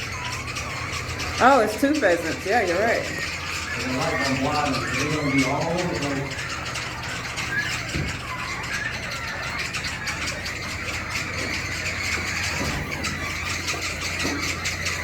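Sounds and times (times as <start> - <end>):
game birds chirping: 0.0 - 15.0
steady low hum: 0.0 - 15.0.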